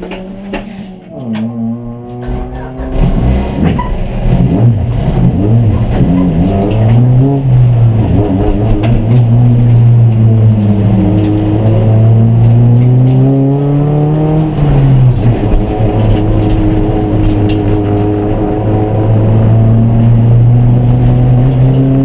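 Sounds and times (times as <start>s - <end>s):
race car engine running hard: 0.0s - 22.0s.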